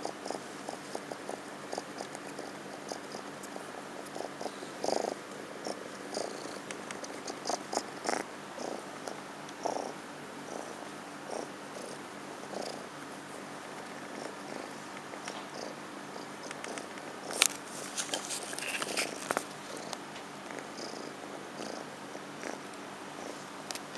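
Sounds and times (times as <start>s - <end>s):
kitten purring: 0.0s - 23.9s.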